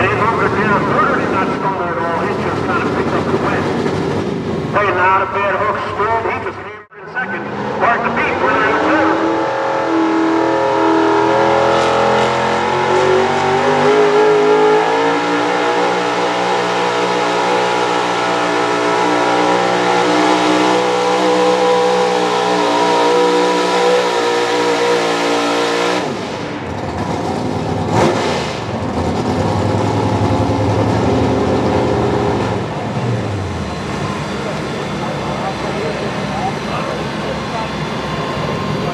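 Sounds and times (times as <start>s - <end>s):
truck engine revving under load: 0.0s - 6.2s, 7.3s - 38.9s.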